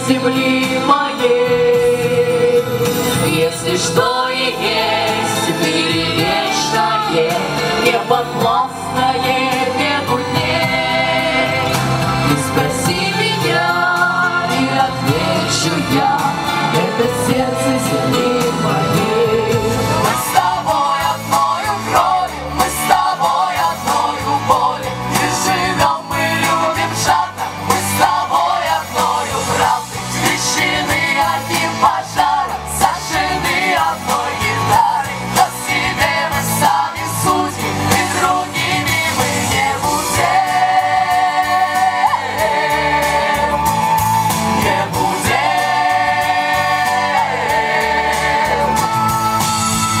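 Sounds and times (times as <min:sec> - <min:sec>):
person singing: 0:00.0 - 0:49.6.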